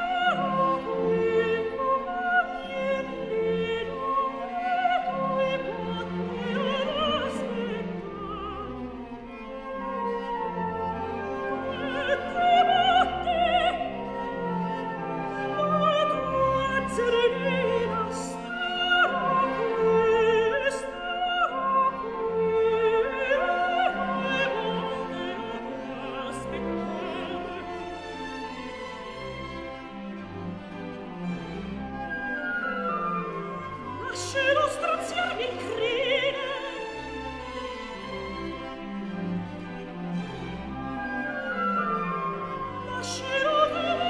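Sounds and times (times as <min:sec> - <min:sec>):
opera singing with vibrato: 0:00.0 - 0:28.7, 0:31.9 - 0:37.5, 0:41.0 - 0:44.0
orchestra with bowed strings: 0:00.0 - 0:44.0.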